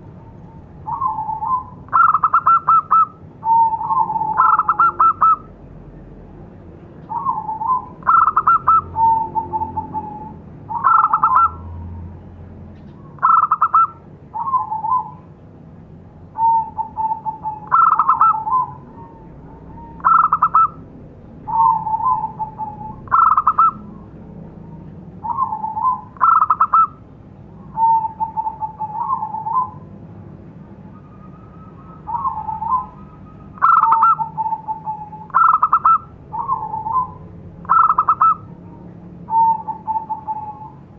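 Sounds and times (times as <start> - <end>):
dove cooing: 0.0 - 5.6, 7.1 - 12.0, 13.1 - 15.3, 16.4 - 27.0, 27.6 - 30.0, 30.9 - 40.9.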